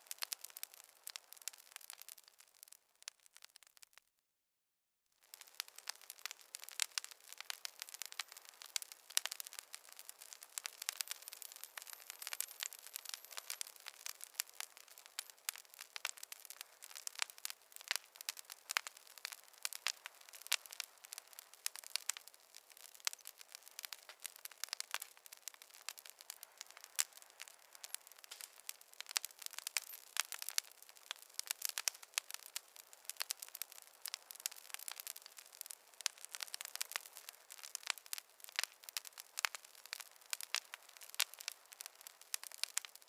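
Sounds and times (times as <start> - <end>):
wood fire crackling: 0.0 - 4.0, 5.2 - 43.0.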